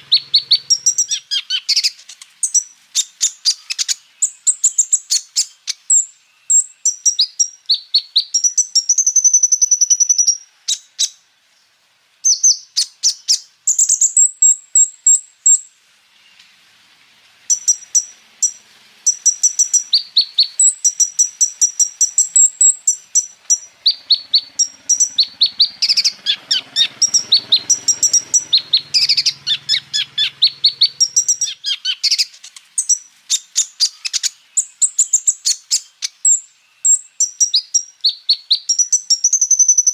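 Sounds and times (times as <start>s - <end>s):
bird chirps and trills: 0.0s - 11.3s, 12.2s - 16.6s, 17.5s - 39.9s.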